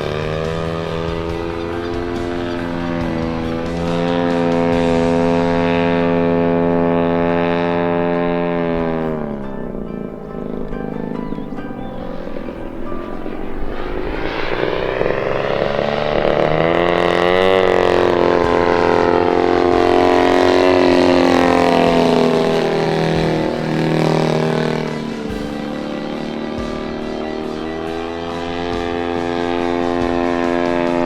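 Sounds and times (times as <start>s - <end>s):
model plane engine and propeller: 0.0s - 31.0s.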